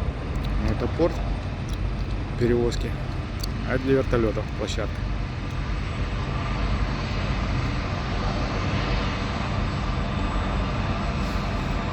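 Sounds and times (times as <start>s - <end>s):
helicopter engine and rotor: 0.0s - 11.9s.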